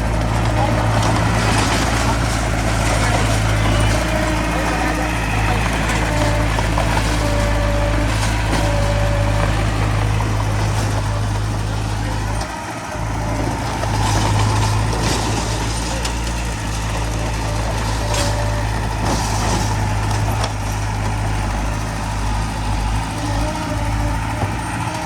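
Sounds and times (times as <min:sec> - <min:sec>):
diesel machinery engine hum: 0:00.0 - 0:25.0.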